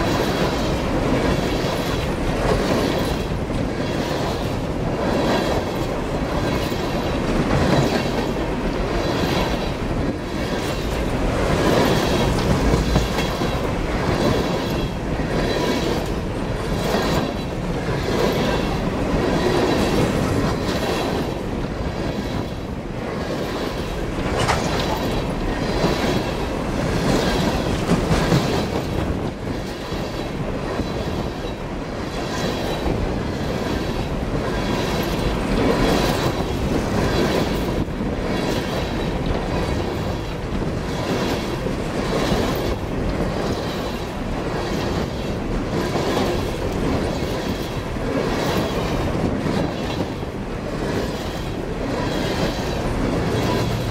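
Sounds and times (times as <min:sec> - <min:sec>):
steel wheels rolling on rails: 0:00.0 - 0:53.9
wheels clattering over rail joints: 0:00.0 - 0:53.9.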